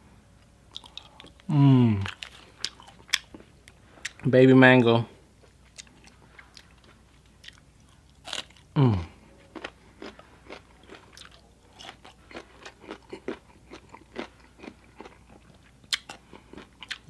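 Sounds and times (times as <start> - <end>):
crunchy chewing: 0.7 - 4.2, 5.4 - 8.8, 9.4 - 17.0.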